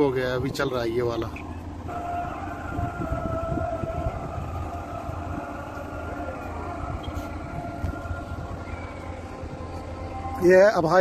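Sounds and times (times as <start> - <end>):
machinery whine: 0.0 - 11.0
ride machinery rumbling: 0.0 - 11.0.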